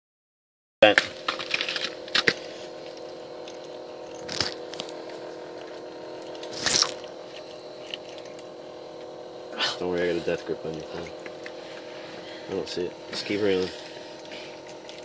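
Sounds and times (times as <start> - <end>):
steady low hum: 0.8 - 15.0.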